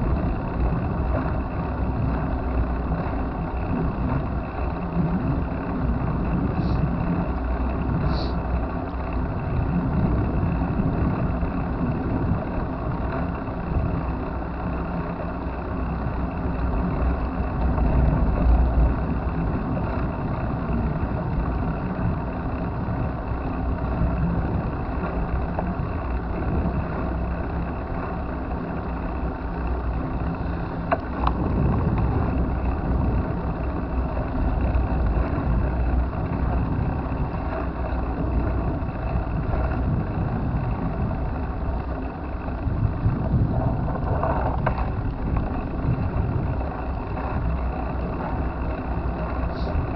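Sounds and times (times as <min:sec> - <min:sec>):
wind and road noise: 0:00.0 - 0:49.9.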